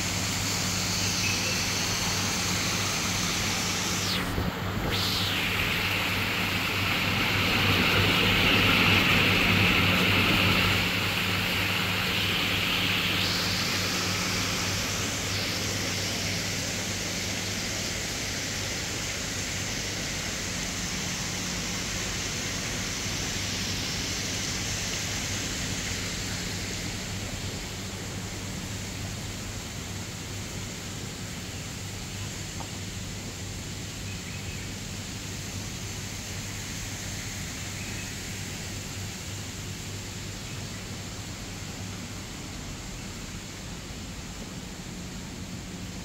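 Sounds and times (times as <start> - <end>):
hissing outdoor noise: 0.0 - 46.0
low even hum: 0.0 - 46.0.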